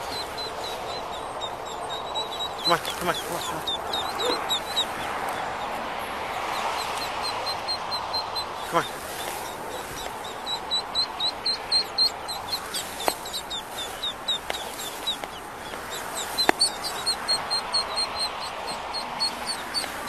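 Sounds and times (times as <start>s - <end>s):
ducklings peeping: 0.0s - 20.0s.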